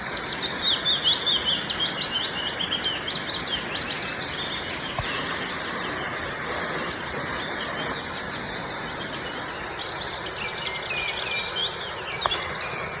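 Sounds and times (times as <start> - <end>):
small birds chirping: 0.0 - 13.0
waterfall rushing: 0.0 - 13.0.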